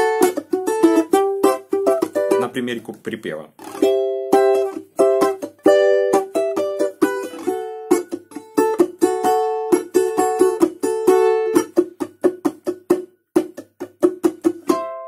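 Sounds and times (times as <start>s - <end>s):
balalaika strumming: 0.0s - 15.0s.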